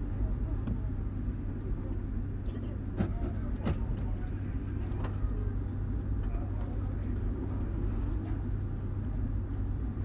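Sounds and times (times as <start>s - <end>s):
passenger train rumble: 0.0s - 10.0s.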